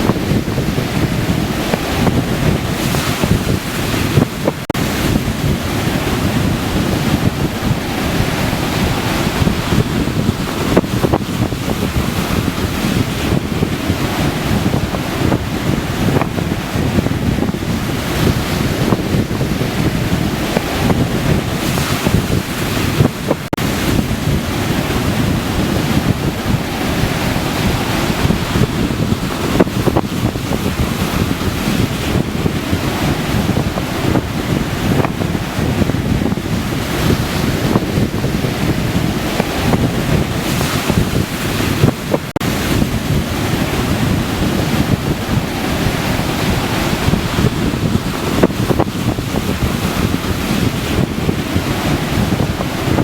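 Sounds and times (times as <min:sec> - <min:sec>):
waves breaking on beach: 0:00.0 - 0:53.0
wind buffeting microphone: 0:00.0 - 0:53.0.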